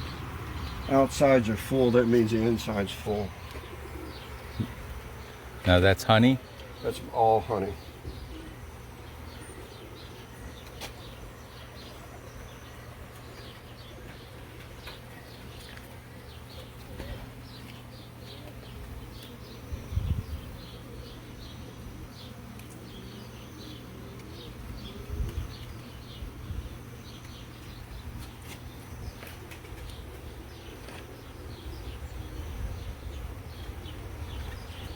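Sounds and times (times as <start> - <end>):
honeybees buzzing: 0.0 - 34.9.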